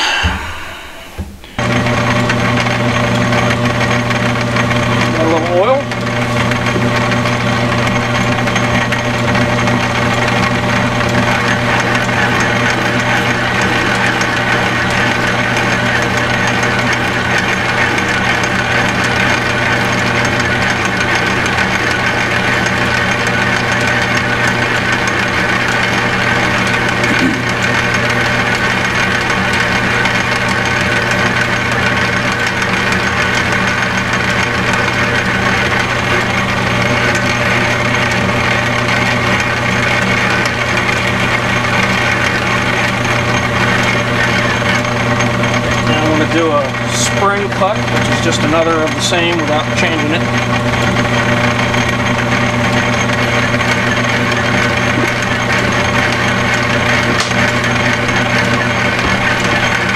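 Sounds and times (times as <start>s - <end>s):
metal lathe hum and whine: 0.0s - 59.9s.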